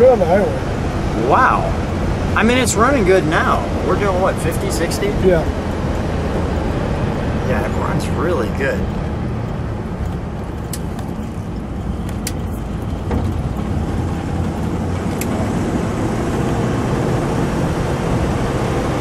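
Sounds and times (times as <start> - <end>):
car engine rumble: 0.0 - 19.0
road noise: 0.0 - 19.0
wind noise: 0.0 - 19.0.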